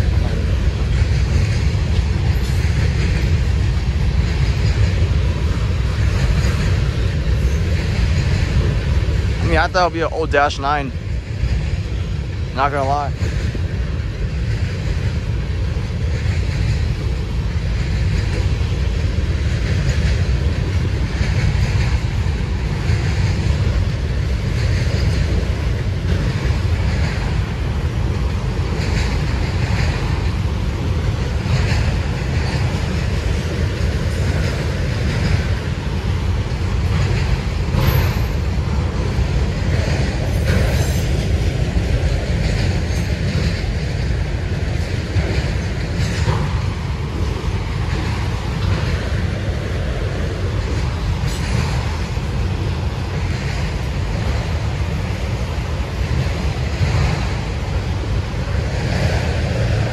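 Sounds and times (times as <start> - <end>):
freight train cars rumbling past: 0.0 - 59.9
wheels clattering over rail joints: 0.0 - 59.9.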